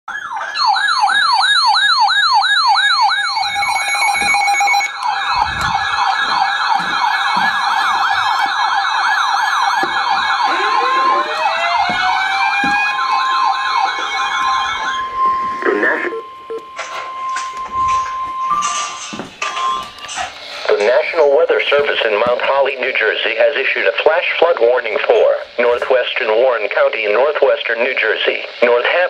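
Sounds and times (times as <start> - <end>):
electronic sirens yelping: 0.1 - 23.7
sirens wailing: 0.1 - 26.8.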